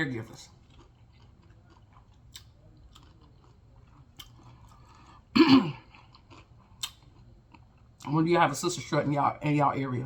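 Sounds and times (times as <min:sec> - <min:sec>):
chewing crunchy chips: 0:00.0 - 0:08.2.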